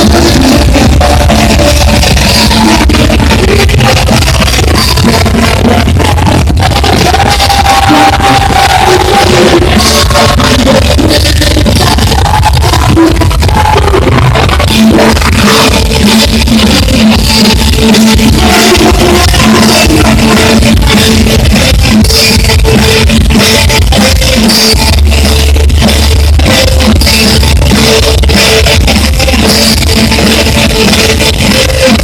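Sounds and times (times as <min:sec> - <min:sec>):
distorted electric guitars: 0:00.0 - 0:32.0
drums: 0:00.0 - 0:32.0
person singing: 0:00.0 - 0:32.0.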